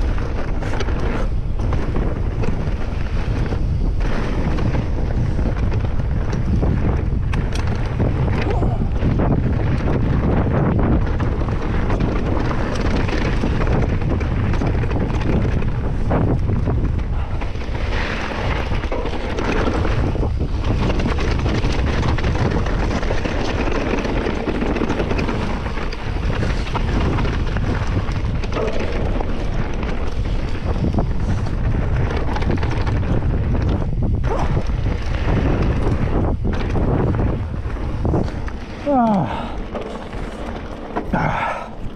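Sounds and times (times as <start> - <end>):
bike knocks and rattles: 0.0 - 41.9
tyre noise: 0.0 - 41.9
wind buffeting microphone: 0.0 - 41.9.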